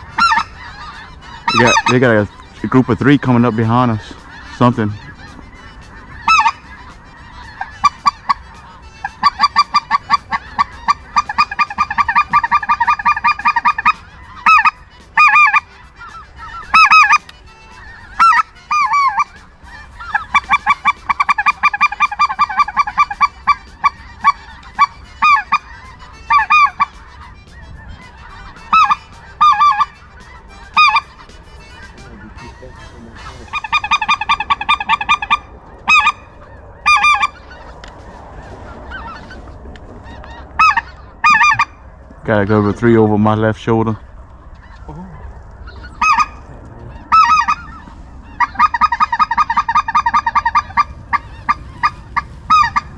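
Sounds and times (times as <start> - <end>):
geese honking: 0.0 - 52.9.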